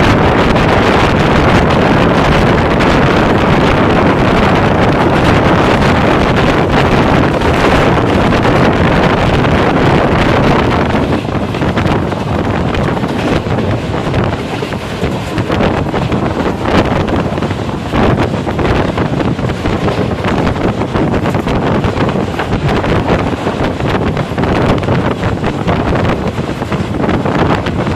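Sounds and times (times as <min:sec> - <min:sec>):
express train rumble: 0:00.0 - 0:27.9
wind noise on microphone: 0:00.0 - 0:27.9.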